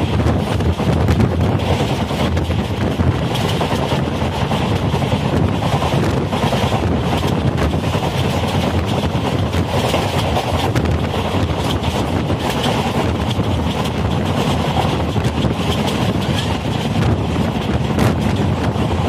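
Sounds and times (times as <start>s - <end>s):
sharp clicks of rails: 0.0s - 19.0s
train wheel and rail noise: 0.0s - 19.0s
wind buffeting microphone: 0.0s - 19.0s.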